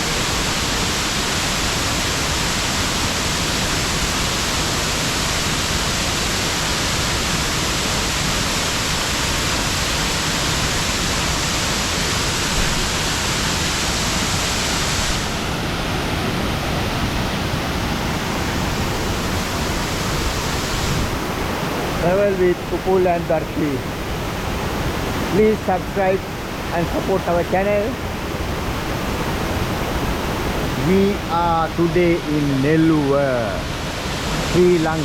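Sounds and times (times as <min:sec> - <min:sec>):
waterfall roaring: 0:00.0 - 0:35.0.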